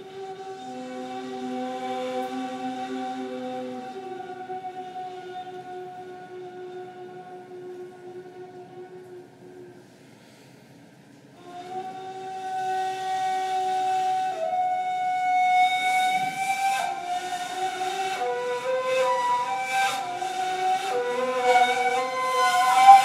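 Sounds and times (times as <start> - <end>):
breathy reed flute: 0.0 - 10.6, 11.4 - 23.0.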